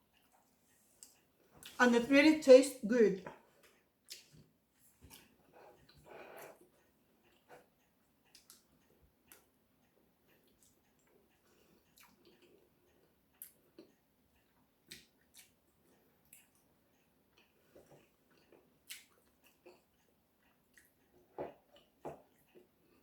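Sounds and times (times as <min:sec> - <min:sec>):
soft chewing: 0:00.0 - 0:01.8, 0:03.2 - 0:23.0.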